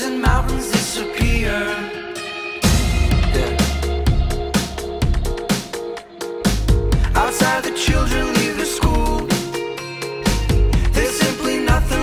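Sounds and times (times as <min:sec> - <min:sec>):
electronic pop music: 0:00.0 - 0:12.0.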